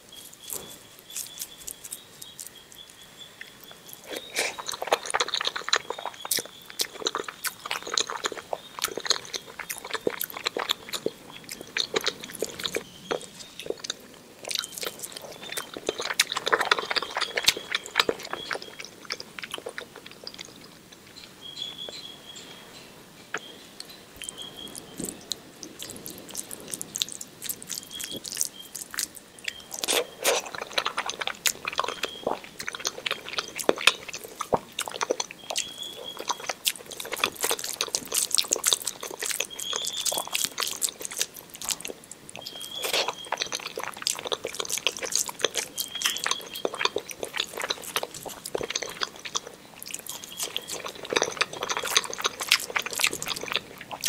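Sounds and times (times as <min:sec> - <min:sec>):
fingers squishing food: 0:00.0 - 0:22.1, 0:23.3 - 0:54.0
wet chewing: 0:00.0 - 0:22.1, 0:23.3 - 0:54.0.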